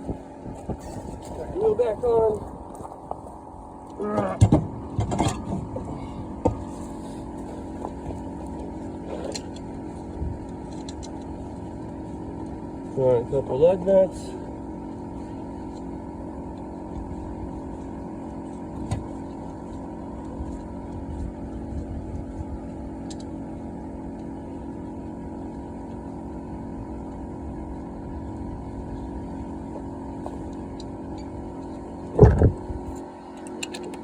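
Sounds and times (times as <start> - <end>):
machine humming: 0.0 - 34.0.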